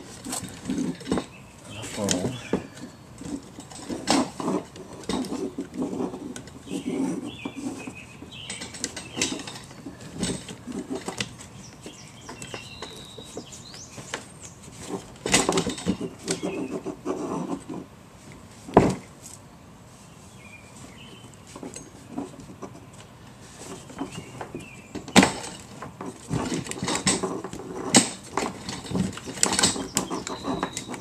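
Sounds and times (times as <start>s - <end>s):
plastic knocks clicks and scraping: 0.2s - 17.8s, 23.6s - 31.0s
birds chirping faintly: 0.4s - 4.0s, 4.8s - 17.0s, 20.0s - 31.0s.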